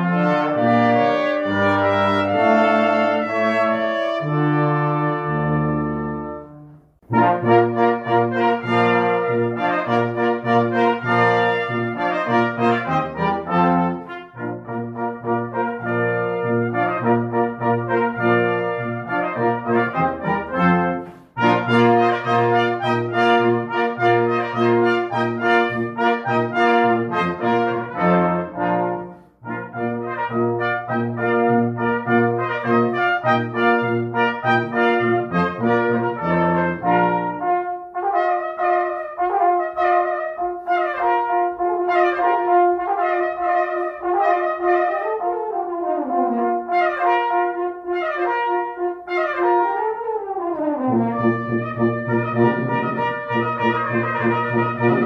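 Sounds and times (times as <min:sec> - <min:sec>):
brass ensemble playing chords: 0:00.0 - 0:55.0.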